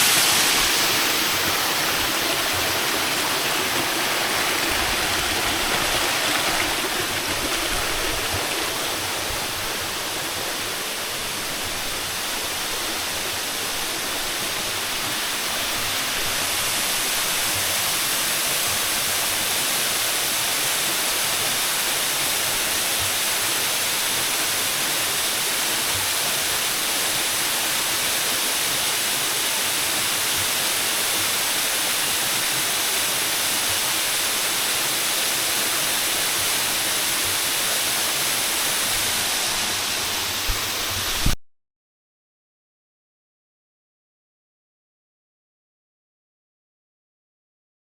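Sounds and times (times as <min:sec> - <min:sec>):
waterfall rushing: 0:00.0 - 0:30.2, 0:30.8 - 0:41.3.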